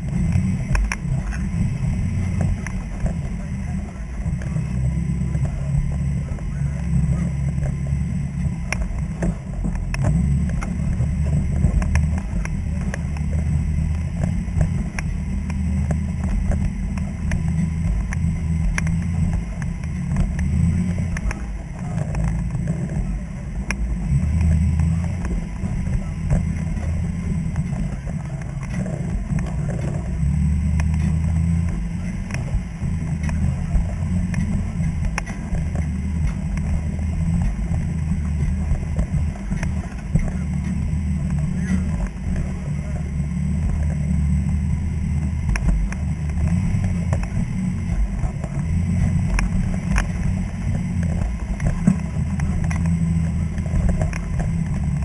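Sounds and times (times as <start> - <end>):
tyres and chassis knocking on rocks: 0.0 - 55.0
vehicle engine low rumble: 0.0 - 55.0.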